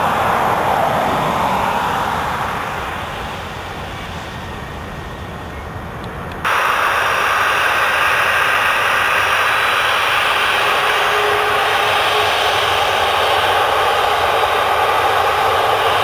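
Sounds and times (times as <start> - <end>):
jet airliner engine noise: 0.0 - 16.0
jet engines hiss and rumble: 0.0 - 16.0.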